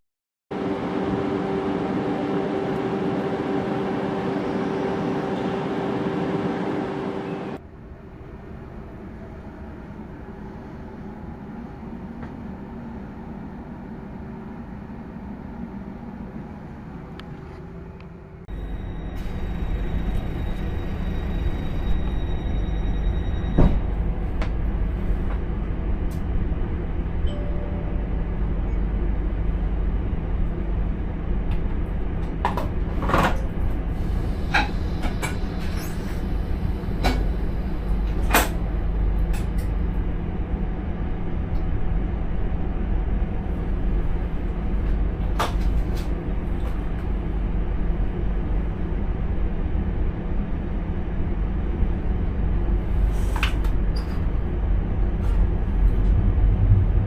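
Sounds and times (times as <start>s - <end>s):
train rumble and hum: 0.5s - 57.0s.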